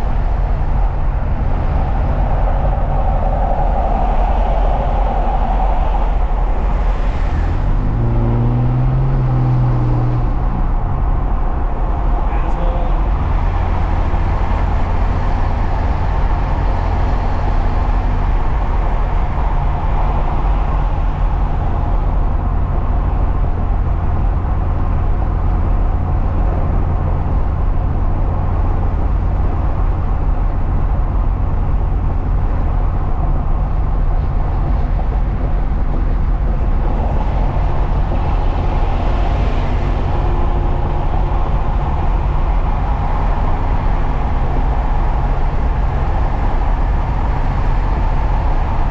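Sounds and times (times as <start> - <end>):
truck engine rumble: 0.0 - 48.9
tyre and road noise: 0.0 - 48.9.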